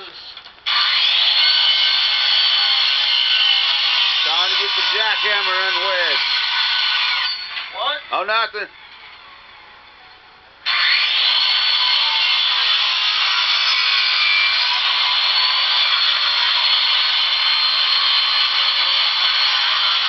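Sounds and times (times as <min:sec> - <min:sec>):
power saw cutting floor: 0:00.6 - 0:07.7, 0:10.6 - 0:20.0.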